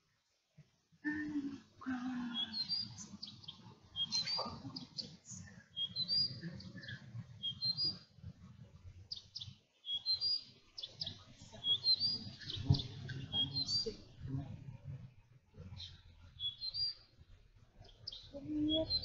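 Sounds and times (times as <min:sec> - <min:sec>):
songbird chirping: 0:00.6 - 0:19.0.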